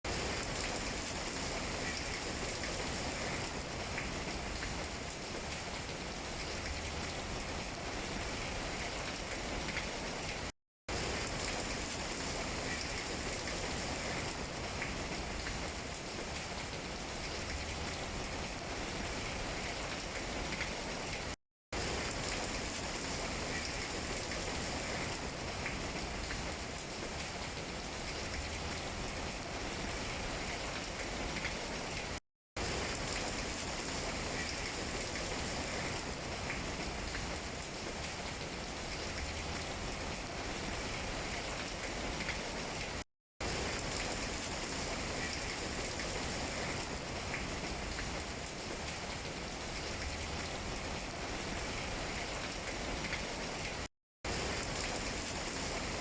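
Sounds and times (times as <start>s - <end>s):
rain on leaves: 0.1s - 56.0s.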